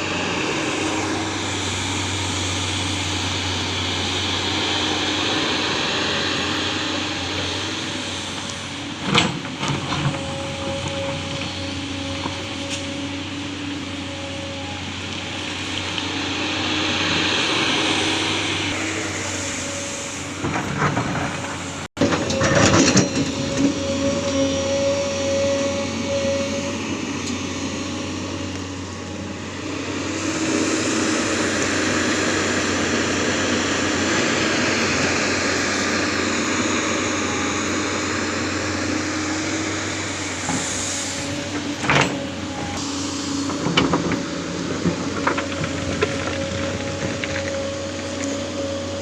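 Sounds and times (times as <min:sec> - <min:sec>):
excavator engine and hydraulics: 0:00.0 - 0:49.0.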